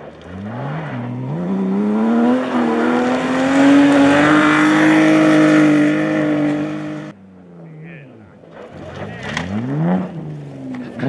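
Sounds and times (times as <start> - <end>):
rally car engine at high revs: 0.0 - 7.2, 8.4 - 11.0.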